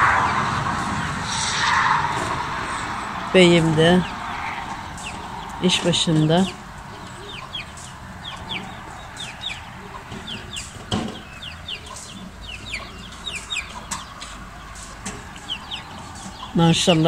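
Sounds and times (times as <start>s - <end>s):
chicks peeping: 0.0s - 17.0s
steady hiss: 0.0s - 17.0s.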